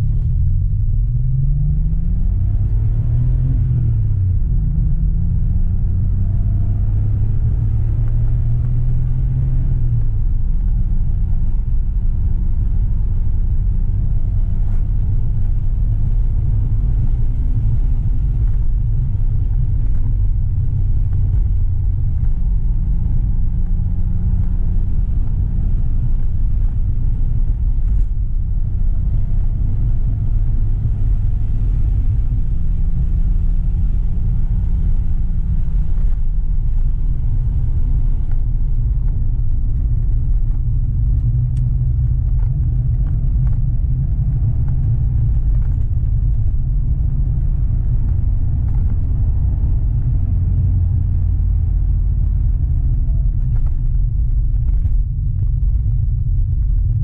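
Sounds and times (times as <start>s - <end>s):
car engine low rumble: 0.0s - 57.0s
road noise: 0.0s - 57.0s.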